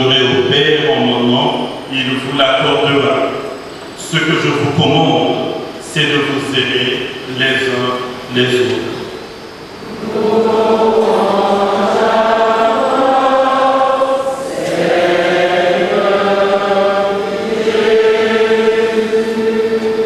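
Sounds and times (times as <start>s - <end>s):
choir and congregation chanting: 0.0s - 20.0s.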